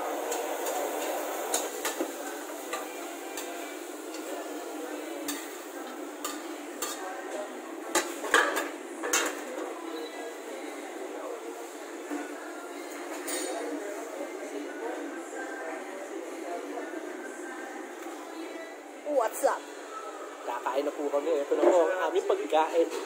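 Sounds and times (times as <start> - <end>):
kitchen background noise: 0.0 - 23.0.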